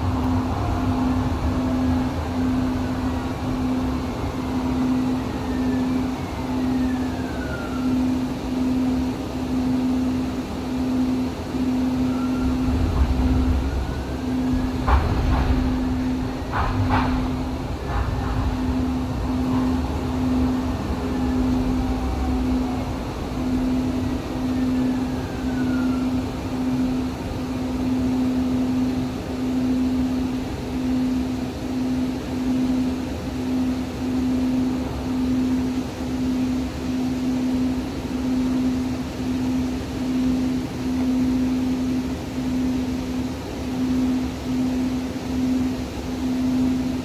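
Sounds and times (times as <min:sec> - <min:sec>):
faint falling whine: 0:00.0 - 0:47.0
low hum cutting in and out: 0:00.0 - 0:47.0
rumbling hiss of train: 0:00.0 - 0:47.0.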